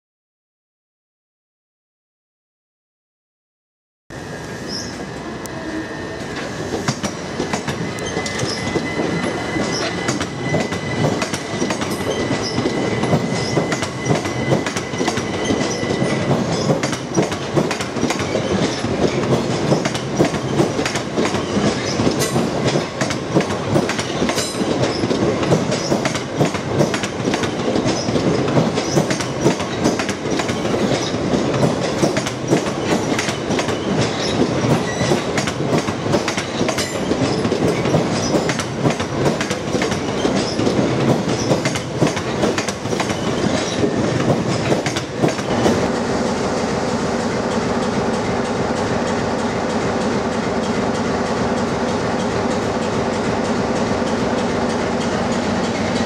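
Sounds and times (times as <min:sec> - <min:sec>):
train wheels rumbling: 0:04.2 - 0:56.0
wheels clickety-clack over rail joints: 0:06.2 - 0:45.9, 0:47.2 - 0:56.0.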